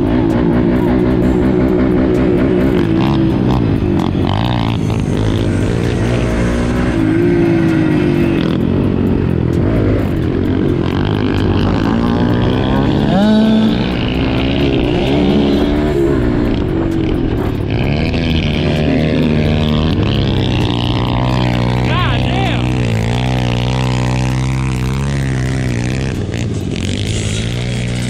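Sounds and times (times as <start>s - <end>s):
dirt bike engine revving: 0.0s - 28.0s
other dirt bikes running: 0.0s - 28.0s.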